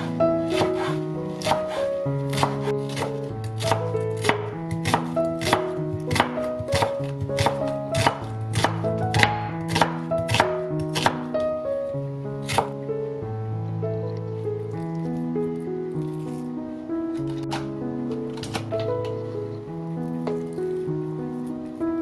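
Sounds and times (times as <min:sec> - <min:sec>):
background music with held notes: 0:00.0 - 0:22.0.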